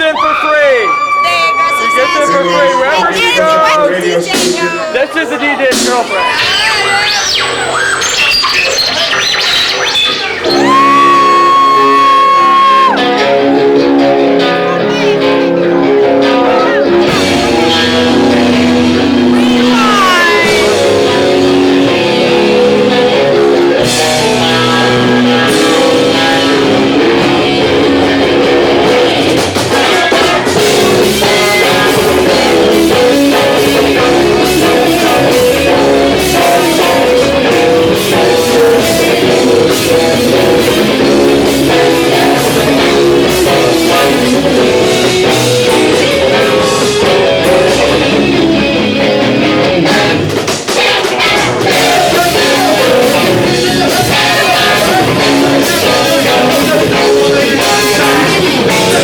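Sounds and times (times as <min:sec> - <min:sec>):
drum kit: 0:03.6 - 0:04.9, 0:05.6 - 0:06.9, 0:07.6 - 0:59.0
electric guitars: 0:05.7 - 0:59.0
person singing: 0:10.4 - 0:59.0.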